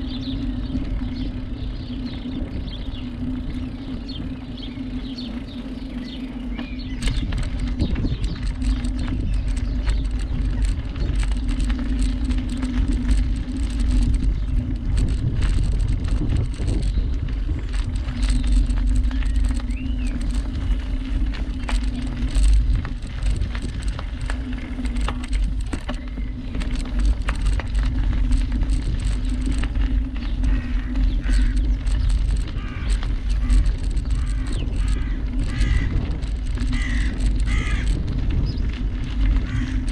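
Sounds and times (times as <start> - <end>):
bicycle tyre rumble: 0.0 - 39.9
small rattling clicks: 0.0 - 39.9
steady low hum: 0.0 - 39.9
wind rumble on camera: 0.0 - 39.9.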